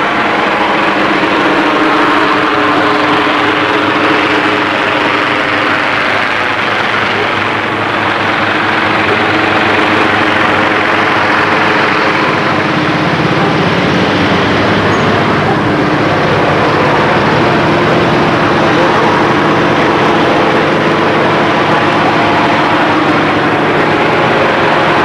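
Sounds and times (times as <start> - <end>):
helicopter hovering overhead: 0.0 - 25.0.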